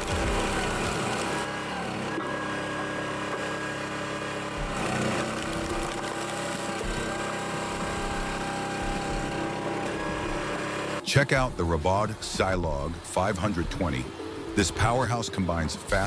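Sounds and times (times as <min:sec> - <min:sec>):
log splitter engine droning: 0:00.0 - 0:16.0.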